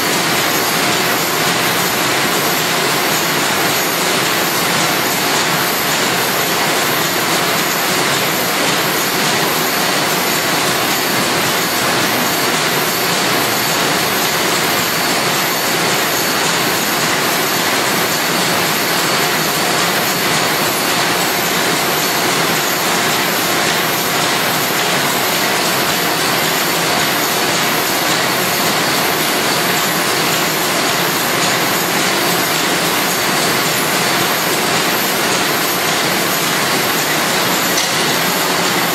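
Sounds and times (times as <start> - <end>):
machine clattering: 0.1 - 38.9.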